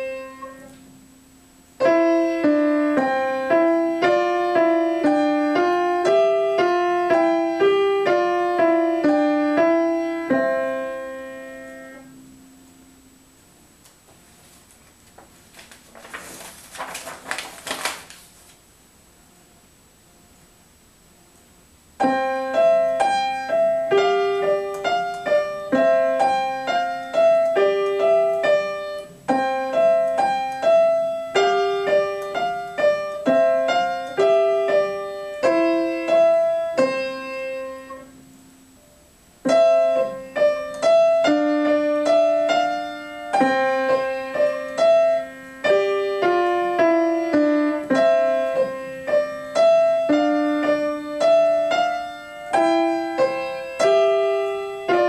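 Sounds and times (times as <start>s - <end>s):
upright piano melody: 0.0s - 13.4s, 22.0s - 55.0s.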